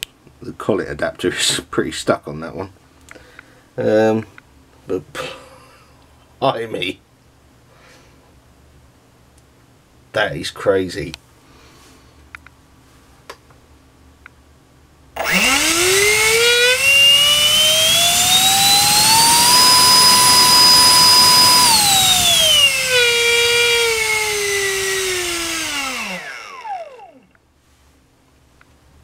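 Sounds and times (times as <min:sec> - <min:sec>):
electric ducted fan whine: 0:00.0 - 0:29.0.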